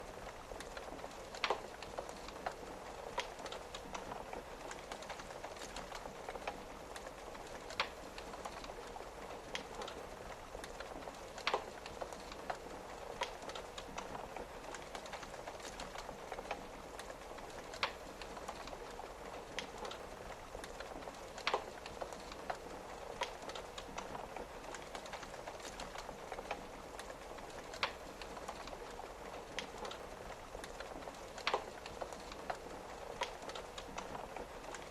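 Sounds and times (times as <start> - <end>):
rain on a window: 0.0 - 34.9
wood fire crackling: 0.0 - 34.9.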